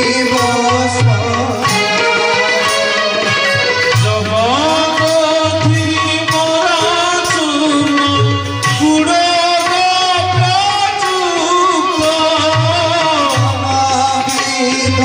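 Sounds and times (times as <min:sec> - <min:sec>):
devotional song melody: 0:00.0 - 0:15.0
repeating drum beat: 0:00.0 - 0:15.0.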